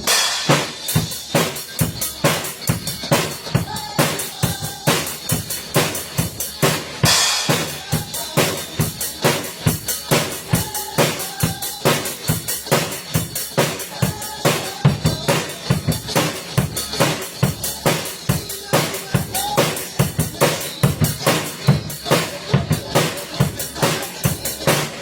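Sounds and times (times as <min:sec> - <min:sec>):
bass drum and snare beat: 0:00.0 - 0:25.0.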